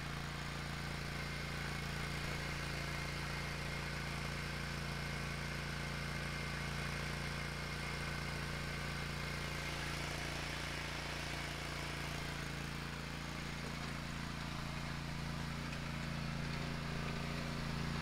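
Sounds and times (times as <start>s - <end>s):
riding mower engine running: 0.0s - 18.0s.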